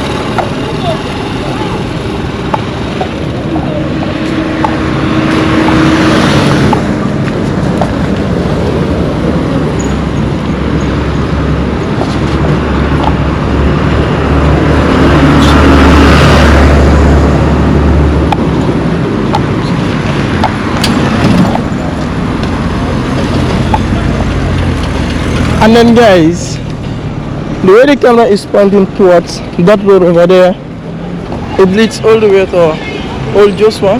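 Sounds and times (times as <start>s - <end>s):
tyres on road: 0.0s - 33.9s
vehicles driving past: 0.0s - 33.9s.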